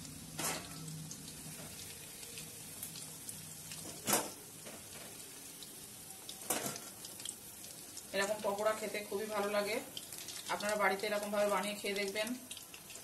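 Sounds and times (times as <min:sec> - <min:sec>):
oil sizzling with pops: 0:00.0 - 0:13.0.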